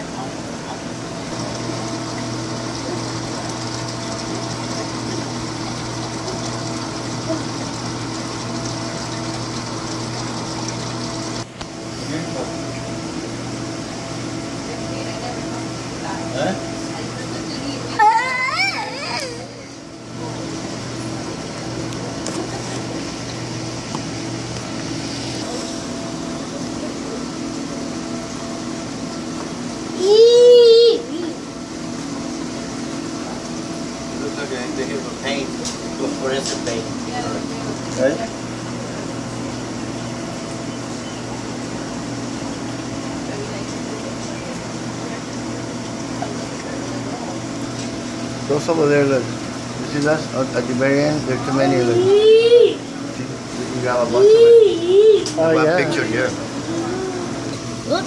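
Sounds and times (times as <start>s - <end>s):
aquarium pump humming: 0.0s - 58.0s
machinery whirring and hissing: 0.0s - 58.0s.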